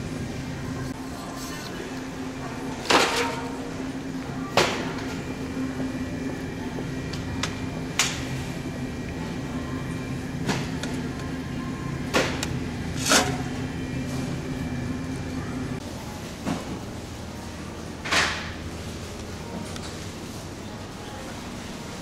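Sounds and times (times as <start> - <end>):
refrigerator and ventilation hum: 0.0 - 22.0.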